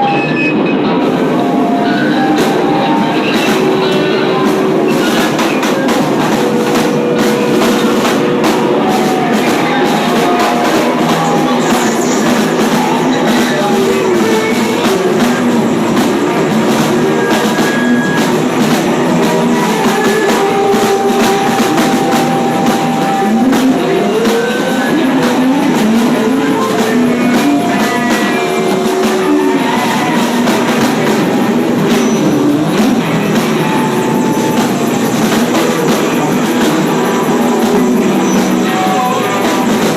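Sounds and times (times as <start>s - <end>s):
distorted electric guitar noise: 0.0s - 39.9s.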